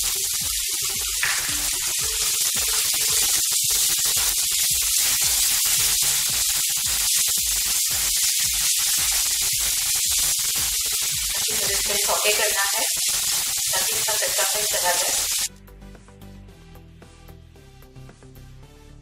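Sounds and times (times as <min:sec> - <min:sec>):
vegetables sizzling in hot oil: 0:00.0 - 0:15.5.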